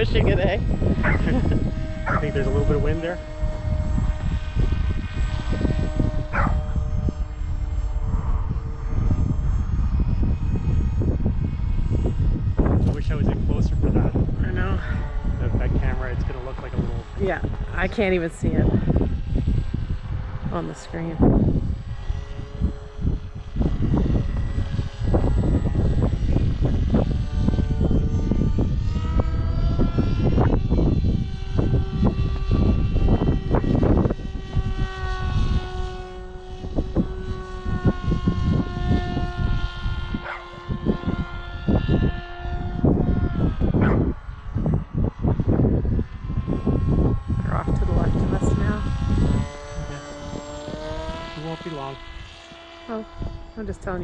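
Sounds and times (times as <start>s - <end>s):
faint electric motor whine: 0.0s - 54.0s
wind buffeting microphone: 0.0s - 54.0s.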